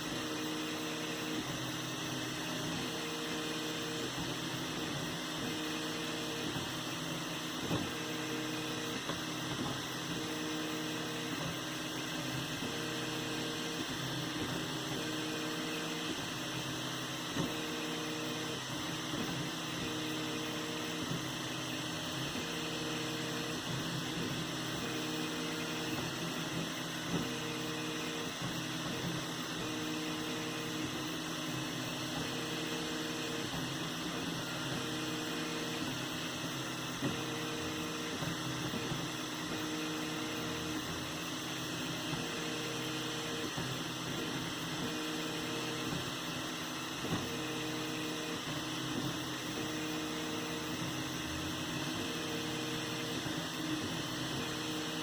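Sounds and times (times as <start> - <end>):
motor whines: 0.0 - 55.0
printer fan hiss and hum: 0.0 - 55.0.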